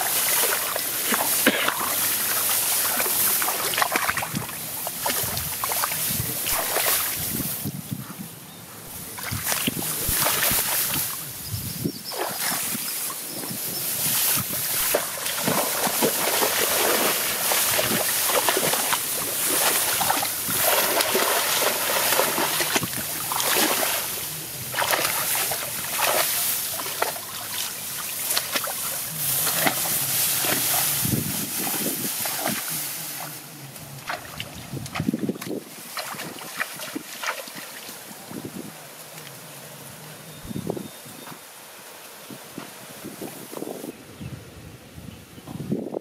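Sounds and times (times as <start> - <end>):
water splashing and sloshing: 0.0 - 7.7, 8.9 - 11.4, 12.0 - 39.5
rice stalks rustling: 0.0 - 7.9, 8.9 - 40.0.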